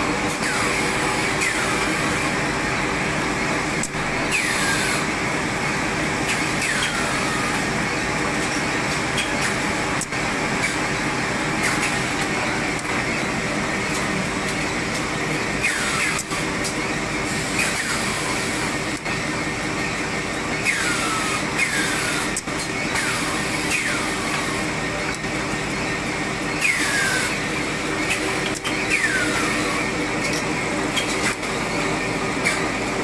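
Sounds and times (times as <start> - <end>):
machine running: 0.0 - 33.0.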